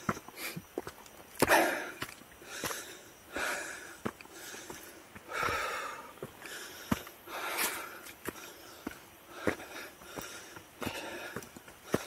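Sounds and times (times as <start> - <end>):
person breathing hard: 1.4 - 12.0.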